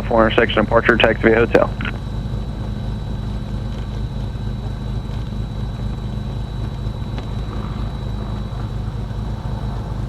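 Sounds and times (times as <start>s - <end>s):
piston engines running steadily: 0.0s - 10.0s
thin high whine: 0.0s - 10.0s.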